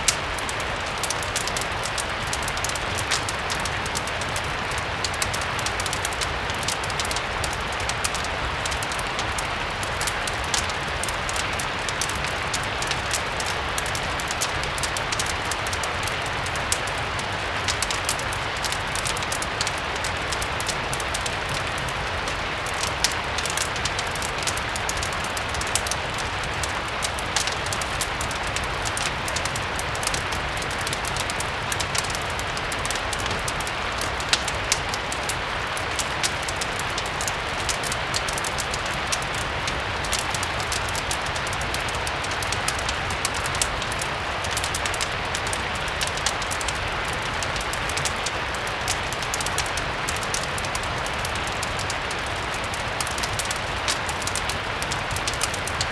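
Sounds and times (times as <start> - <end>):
steady rain hiss: 0.0 - 55.9
wood fire crackling: 0.0 - 55.9.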